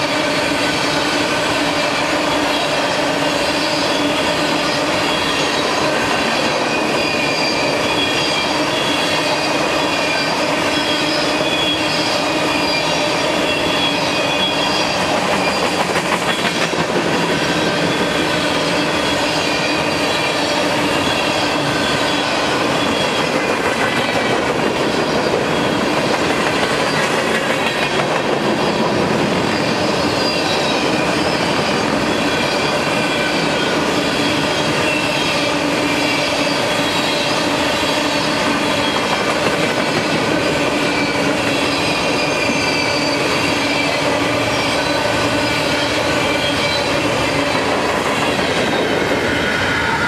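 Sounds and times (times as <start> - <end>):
train wheels rumbling on rail: 0.0 - 50.0
wheels squealing: 1.7 - 50.0.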